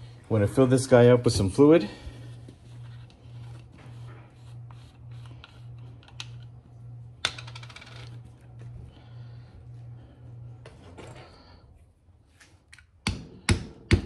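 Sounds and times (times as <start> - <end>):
low pulsing hum: 0.0 - 12.2.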